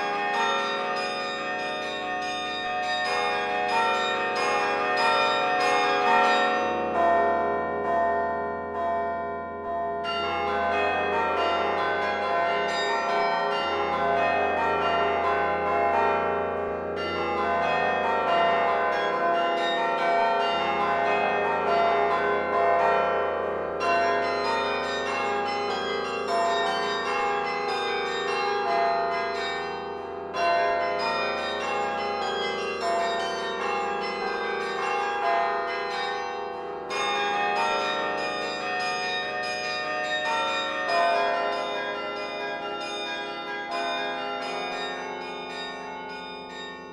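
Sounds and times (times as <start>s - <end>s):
carillon bells ringing: 0.0s - 16.2s, 16.9s - 46.9s.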